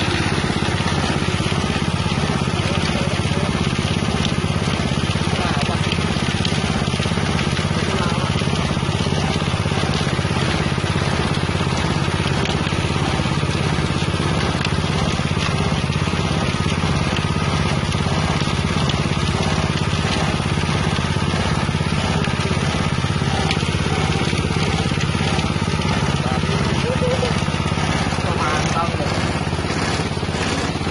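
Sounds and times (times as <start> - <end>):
mill grinding and crushing: 0.0 - 30.9
small engine running: 0.0 - 30.9.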